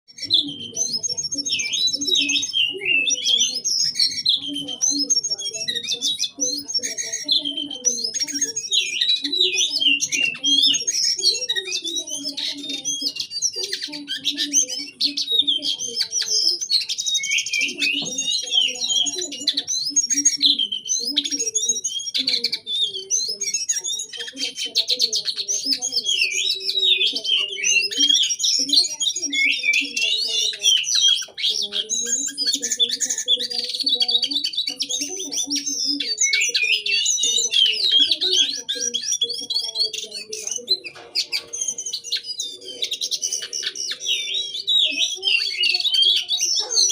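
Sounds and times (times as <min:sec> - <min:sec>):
songbird chirping and trilling: 0:00.0 - 0:46.9.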